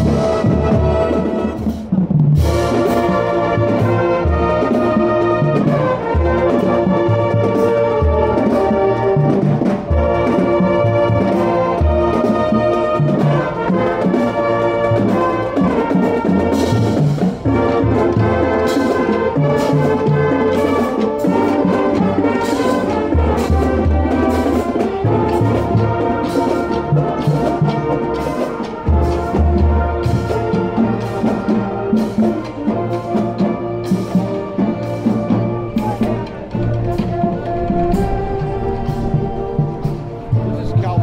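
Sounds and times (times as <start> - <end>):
trumpets and sousaphones: 0.0 - 41.0.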